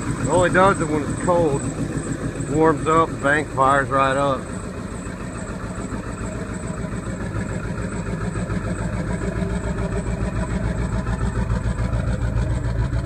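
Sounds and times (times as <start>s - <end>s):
diesel engine idling rough: 0.0s - 13.0s.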